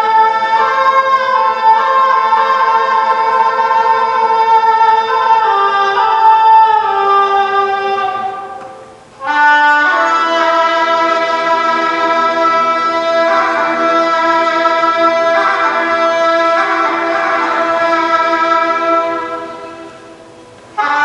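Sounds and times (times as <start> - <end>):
bowed and plucked strings orchestra: 0.0 - 21.0
suona playing slow melody: 0.0 - 21.0.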